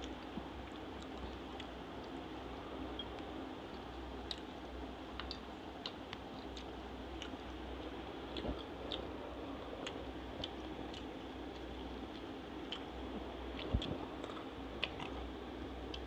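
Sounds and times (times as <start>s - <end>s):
steady low hum: 0.0s - 16.0s
mouth clicks and smacks chewing: 2.9s - 16.0s.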